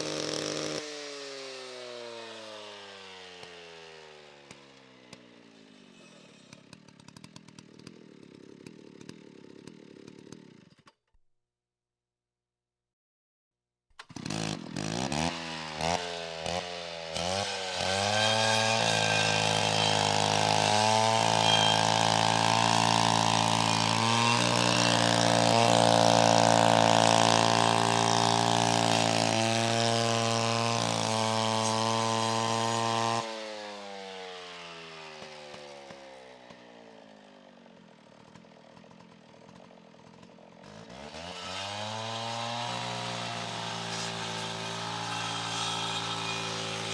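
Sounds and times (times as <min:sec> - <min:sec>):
chainsaw engine revving: 0:00.0 - 0:10.8, 0:14.0 - 0:46.9.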